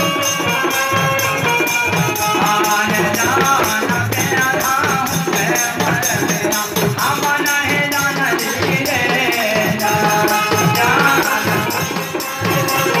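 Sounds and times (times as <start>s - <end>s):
hand drum playing: 0.0s - 13.0s
jingling percussion: 0.0s - 13.0s
person singing: 0.0s - 13.0s.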